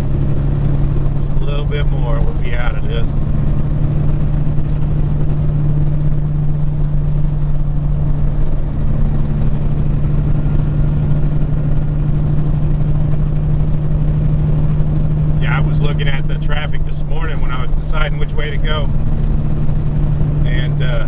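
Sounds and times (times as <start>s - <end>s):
diesel truck engine droning: 0.0s - 21.0s
road noise: 0.0s - 21.0s.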